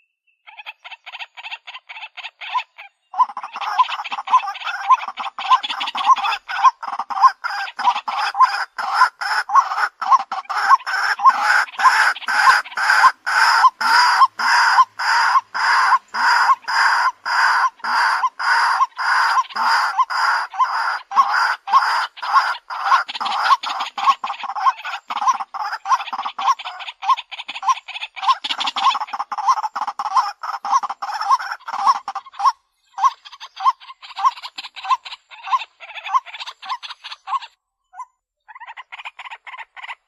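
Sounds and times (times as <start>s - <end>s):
bird calling harsh kwak notes: 0.0s - 40.0s.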